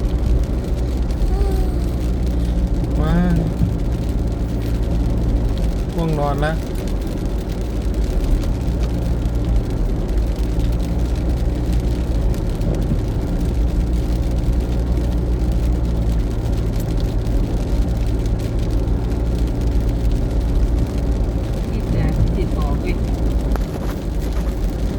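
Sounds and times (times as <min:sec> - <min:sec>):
low rumble: 0:00.0 - 0:24.9.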